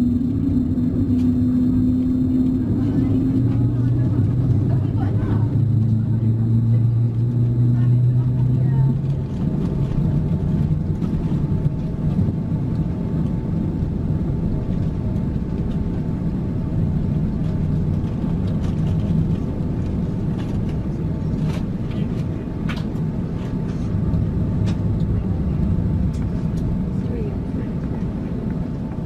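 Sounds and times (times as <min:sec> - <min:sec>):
aircraft cabin rumble: 0:00.0 - 0:29.0.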